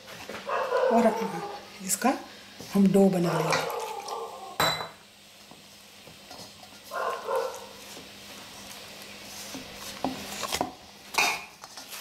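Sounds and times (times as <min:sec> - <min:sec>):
hand mixing dough in metal bowl: 0:00.0 - 0:04.5, 0:06.3 - 0:12.0.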